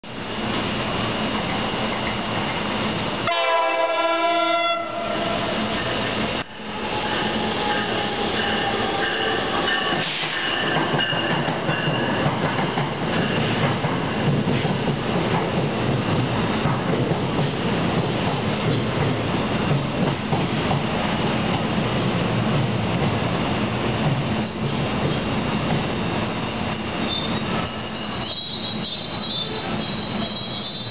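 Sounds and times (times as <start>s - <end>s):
train wheels on rails: 0.1s - 30.9s.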